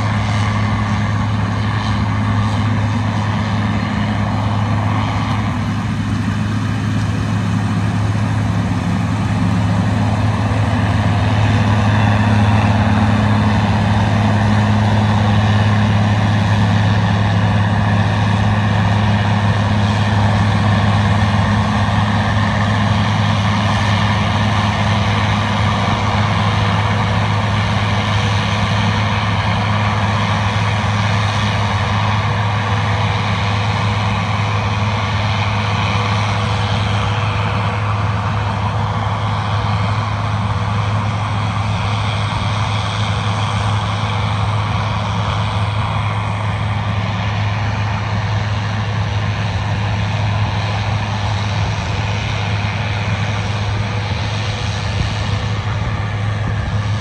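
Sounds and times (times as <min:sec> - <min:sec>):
diesel engine drone: 0:00.0 - 0:57.0
noisy rush: 0:00.0 - 0:57.0.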